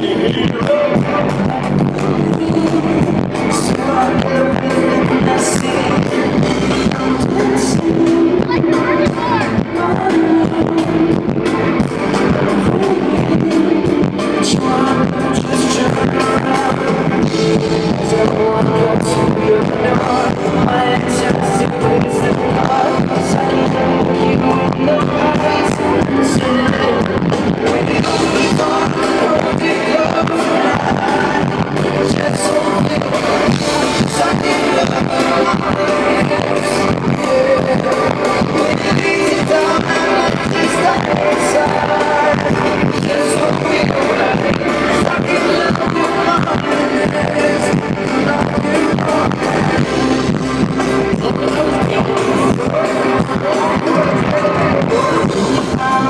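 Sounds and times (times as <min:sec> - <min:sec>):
drum kit beating: 0:00.0 - 0:56.0
guitar and bass: 0:00.0 - 0:56.0
voices singing: 0:00.0 - 0:56.0.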